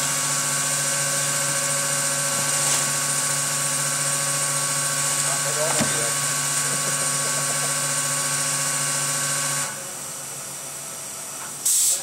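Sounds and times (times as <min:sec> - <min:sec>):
filling machine humming and hissing: 0:00.0 - 0:12.0.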